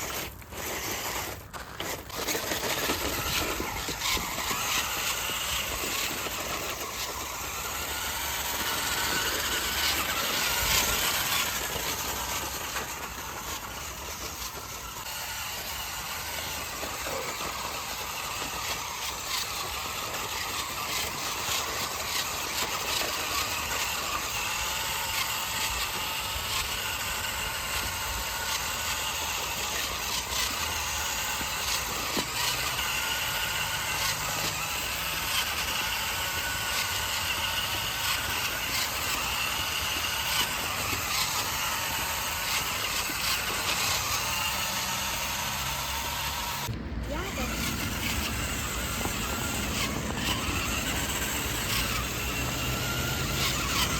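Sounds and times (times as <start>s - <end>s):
toy truck motor whirring and clicking: 0.0s - 53.9s.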